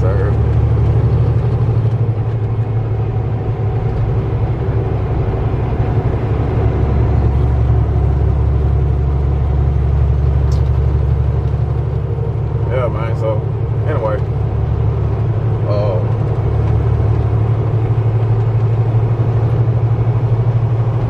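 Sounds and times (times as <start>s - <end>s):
truck diesel engine drone: 0.0s - 21.0s.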